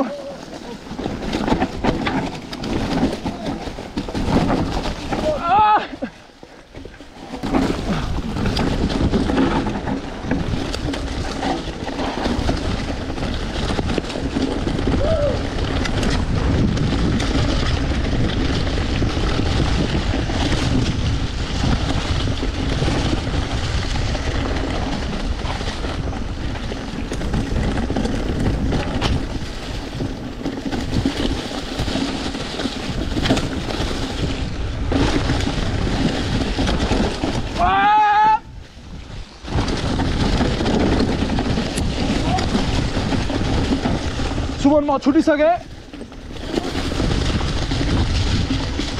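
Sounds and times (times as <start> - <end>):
bike clicks and rattles: 0.0 - 48.9
bike tyres rolling on dirt: 0.0 - 48.9
wind buffeting microphone: 0.0 - 48.9.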